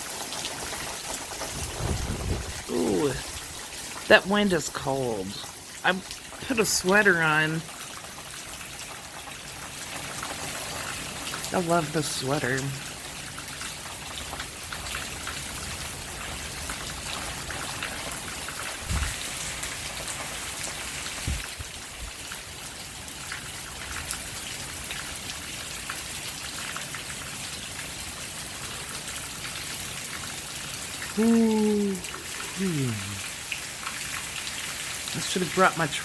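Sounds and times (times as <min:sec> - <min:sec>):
rain pattering: 0:00.0 - 0:36.0.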